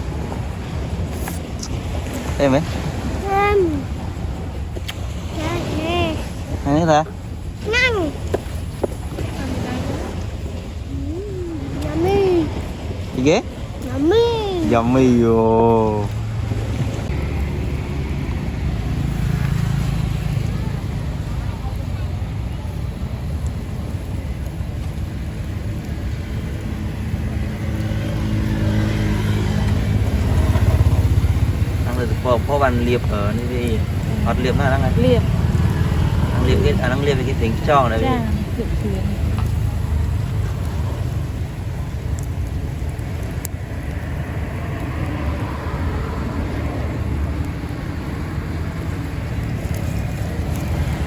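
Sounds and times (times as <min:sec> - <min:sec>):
surf washing: 0:00.0 - 0:51.0
vehicle engine humming: 0:00.0 - 0:51.0
wind buffeting microphone: 0:00.0 - 0:51.0.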